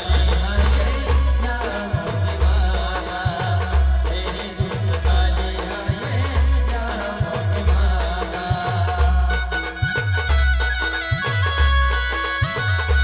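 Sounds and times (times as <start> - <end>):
band playing folk music: 0.0 - 13.0
deep booming drum beats: 0.0 - 13.0
rattling percussion: 0.0 - 13.0.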